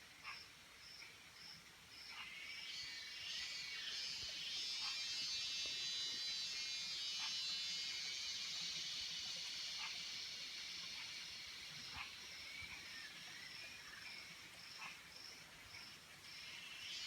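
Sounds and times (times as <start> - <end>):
insects trilling chorus: 1.4 - 17.0
short lower insect call: 2.0 - 17.0.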